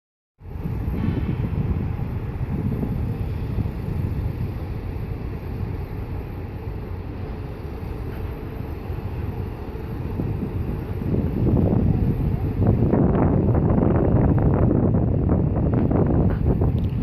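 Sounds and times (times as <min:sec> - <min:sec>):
wind buffeting microphone: 0:00.4 - 0:17.0.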